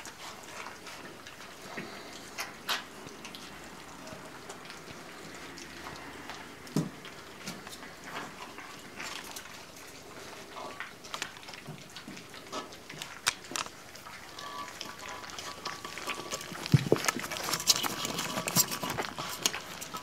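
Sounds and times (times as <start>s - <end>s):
puppies chewing and crunching kibble: 0.0s - 20.0s.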